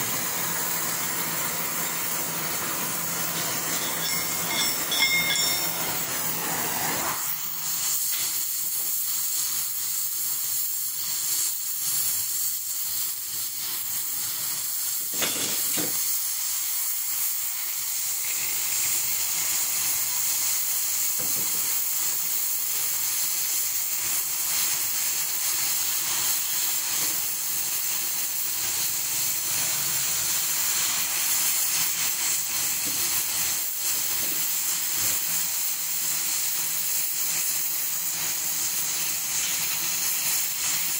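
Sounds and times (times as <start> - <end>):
cutting torch hissing: 0.0 - 40.9.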